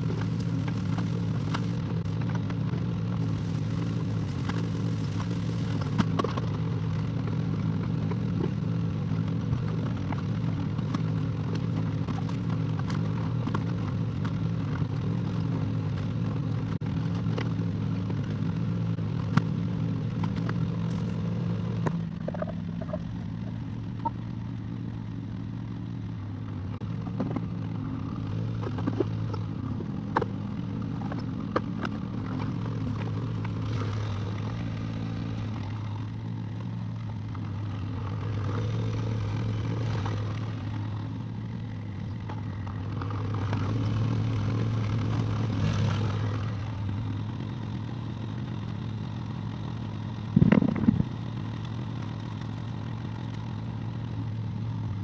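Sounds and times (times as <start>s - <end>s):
excavator engine running: 0.0s - 15.0s, 16.1s - 55.0s.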